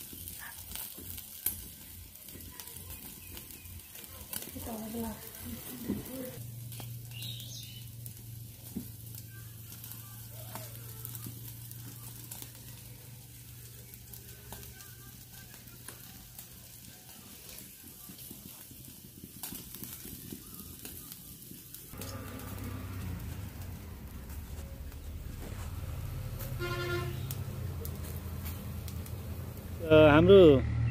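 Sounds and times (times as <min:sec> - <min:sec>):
small crackles: 0:00.0 - 0:29.8
meat sizzling on a grill: 0:00.0 - 0:30.1.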